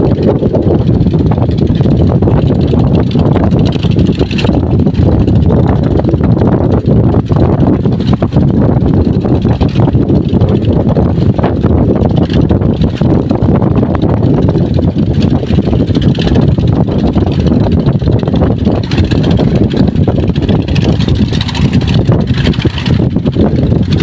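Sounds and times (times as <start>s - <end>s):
engine rumbling: 0.0s - 24.0s
wind buffeting microphone: 0.0s - 24.0s.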